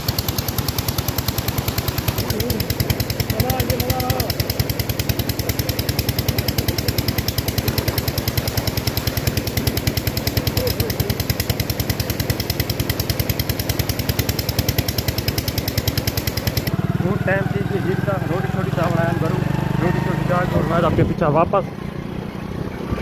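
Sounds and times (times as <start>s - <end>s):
engine thudding: 0.0s - 21.5s.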